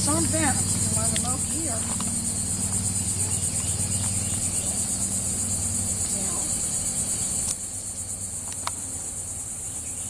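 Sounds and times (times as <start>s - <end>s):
insect buzzing trill: 0.0s - 10.0s
low steady hum: 0.0s - 10.0s.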